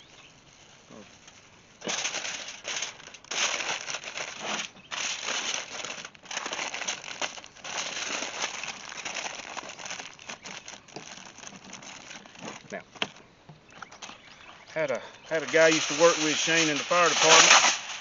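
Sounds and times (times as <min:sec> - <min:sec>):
aluminium foil crinkling: 0:00.0 - 0:13.2, 0:15.2 - 0:18.0
plastic bag rustling: 0:00.0 - 0:13.2, 0:15.2 - 0:18.0.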